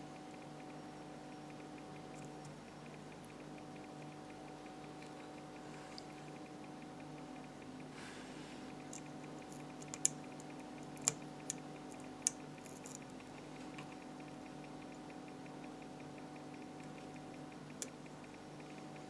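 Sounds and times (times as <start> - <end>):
faint steady hum: 0.0 - 19.0
tweezers clicking on circuit board: 0.2 - 7.9, 8.7 - 19.0.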